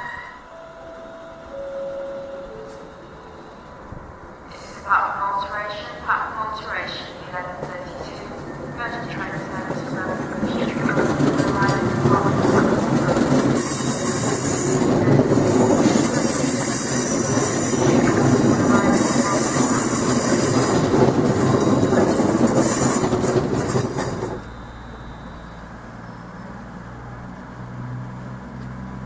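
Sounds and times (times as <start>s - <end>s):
train wheels rumbling on rail: 2.4s - 29.0s.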